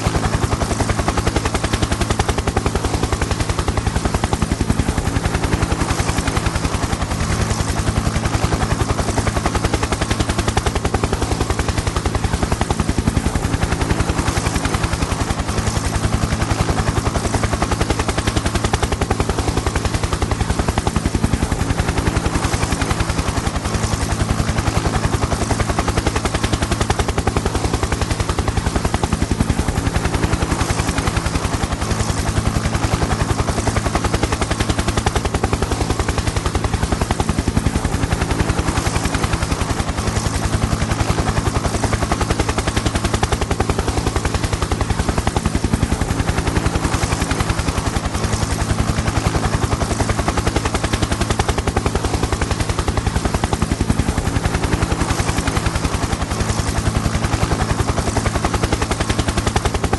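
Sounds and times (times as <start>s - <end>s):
helicopter engine drone: 0.0s - 59.9s
helicopter rotor chop: 0.0s - 59.9s.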